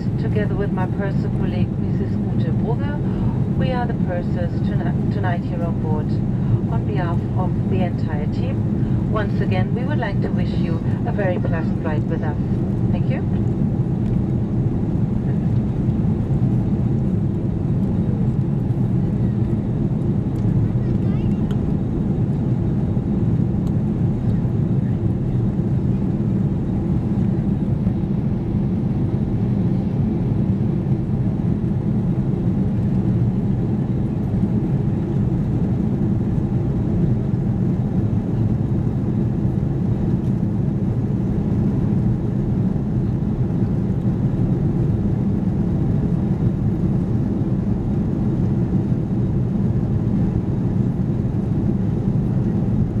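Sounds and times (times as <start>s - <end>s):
jet engines from inside cabin: 0.0s - 53.0s.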